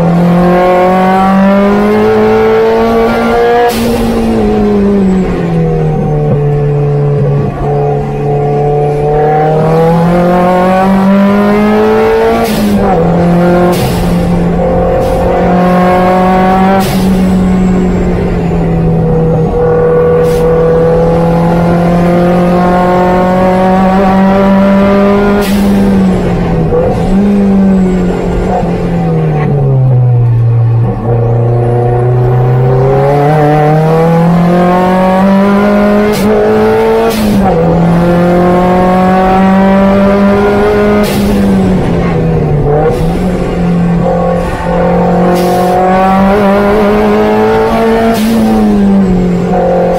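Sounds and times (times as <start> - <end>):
car engine at high revs: 0.0 - 49.9.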